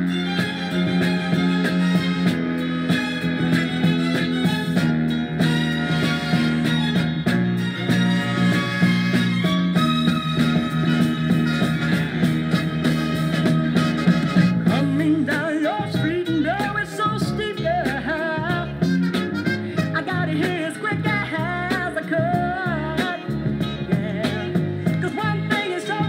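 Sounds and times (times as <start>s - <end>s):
soul record playing: 0.0s - 26.0s.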